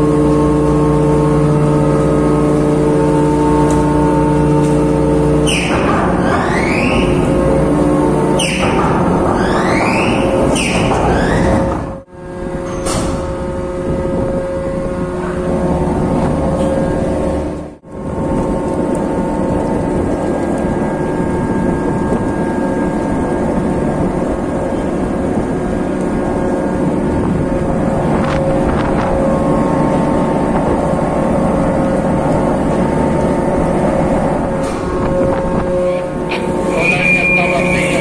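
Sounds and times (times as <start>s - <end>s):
mooring winch humming: 0.0s - 38.0s
wind on microphone: 5.8s - 36.8s.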